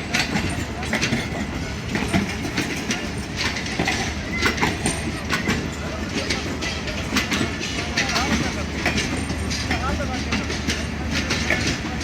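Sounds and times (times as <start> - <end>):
train rumbling past: 0.0 - 12.0
wheels clacking over rail joints: 0.0 - 12.0.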